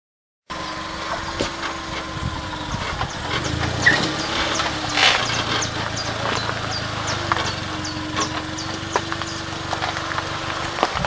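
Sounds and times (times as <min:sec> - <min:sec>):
car engine running at low revs: 0:00.5 - 0:11.0
steady engine whine: 0:00.5 - 0:11.0
stones cracking under tyres: 0:01.0 - 0:11.0.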